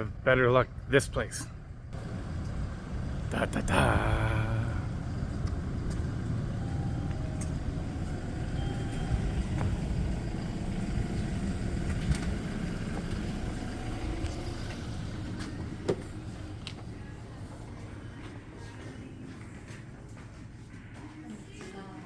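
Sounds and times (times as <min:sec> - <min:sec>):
road traffic rumble: 0:00.0 - 0:20.5.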